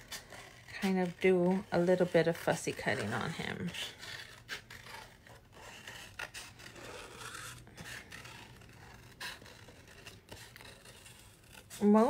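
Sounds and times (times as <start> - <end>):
paper rustling and scraping: 0.0 - 12.0.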